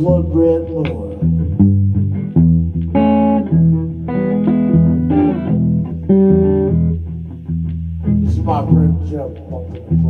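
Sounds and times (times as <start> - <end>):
electric guitar through amplifier: 0.0 - 10.0.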